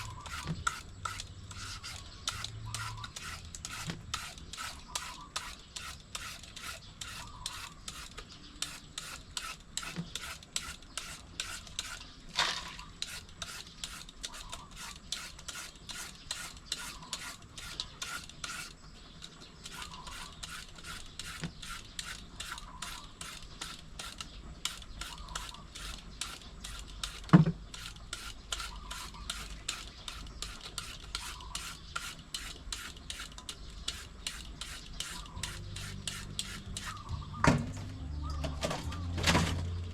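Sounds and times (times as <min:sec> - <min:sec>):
shredder rasping on papaya: 0:00.0 - 0:37.3.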